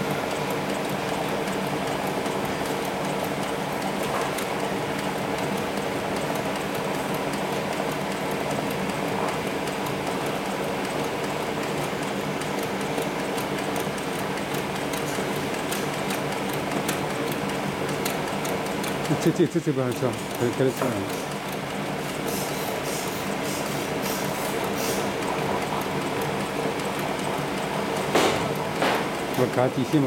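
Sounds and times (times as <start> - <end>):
sewing machine running: 0.0 - 30.0.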